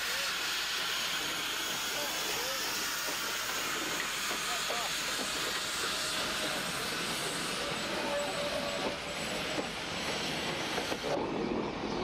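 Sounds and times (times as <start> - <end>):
train wheels rushing on rail: 0.0 - 12.0.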